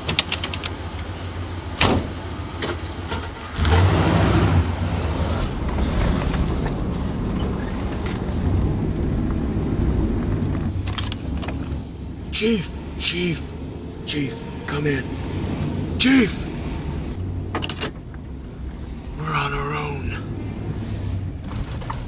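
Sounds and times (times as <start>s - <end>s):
van engine starting and running: 0.0s - 22.0s.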